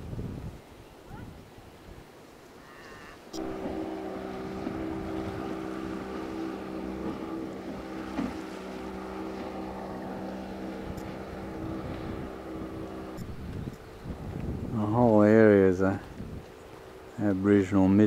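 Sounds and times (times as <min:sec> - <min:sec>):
wind on microphone: 0:00.0 - 0:02.2, 0:03.3 - 0:16.8
outboard motor droning: 0:02.5 - 0:18.0.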